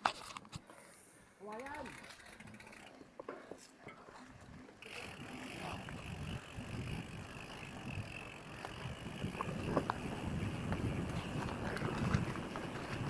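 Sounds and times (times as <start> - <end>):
bike mechanical clicking: 0.2 - 3.4, 4.8 - 13.0.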